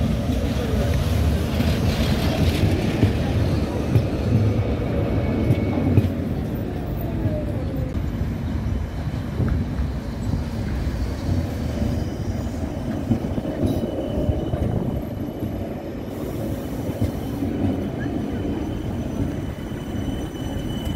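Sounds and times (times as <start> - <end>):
tram wheels rumbling on rails: 0.0 - 20.9.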